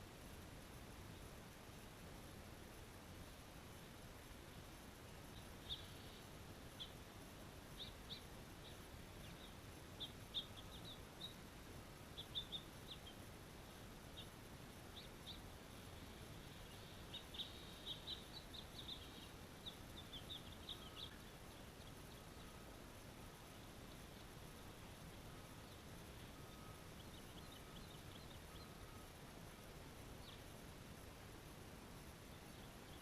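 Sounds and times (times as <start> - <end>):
steady background hiss: 0.0 - 33.0
birds chirping: 4.2 - 30.6, 32.1 - 33.0.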